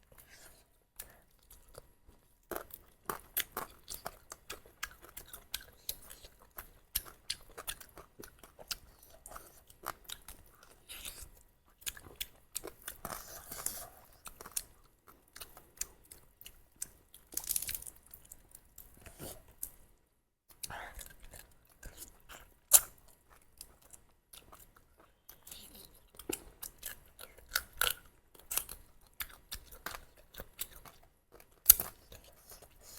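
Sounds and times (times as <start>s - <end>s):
chewing and crunching food: 0.0s - 32.9s.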